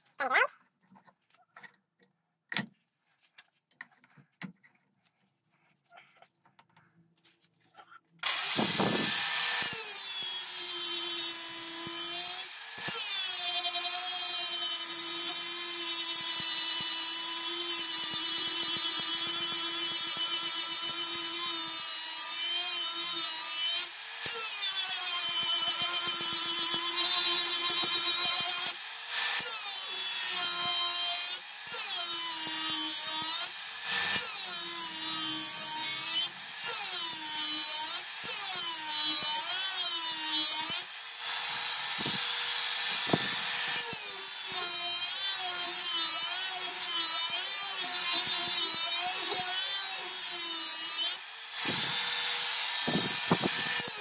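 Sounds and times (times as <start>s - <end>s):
angle grinder grinding steel: 8.2s - 54.0s.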